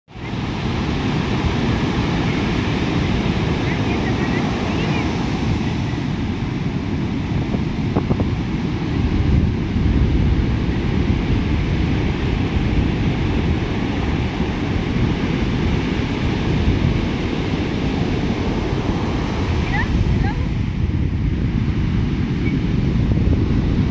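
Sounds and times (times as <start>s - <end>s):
ocean surf breaking: 0.1s - 23.9s
wind buffeting microphone: 0.1s - 23.9s.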